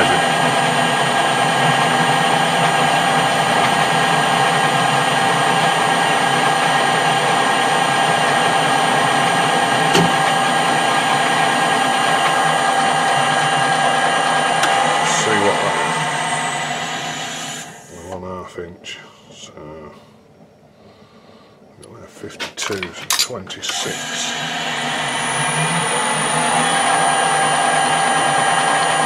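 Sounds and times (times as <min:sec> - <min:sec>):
metal lathe whining: 0:00.0 - 0:17.9, 0:22.7 - 0:29.0.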